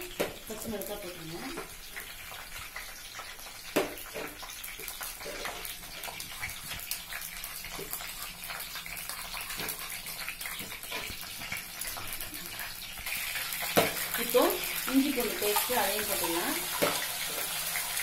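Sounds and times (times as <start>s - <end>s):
spices sizzling in hot oil: 0.0s - 18.0s.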